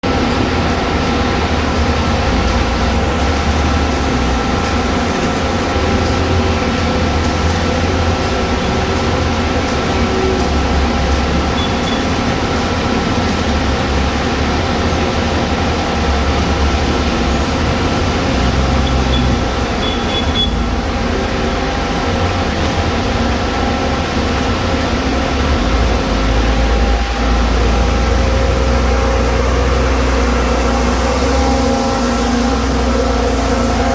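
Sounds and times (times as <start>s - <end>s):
heavy machinery deep drone: 0.0s - 33.9s.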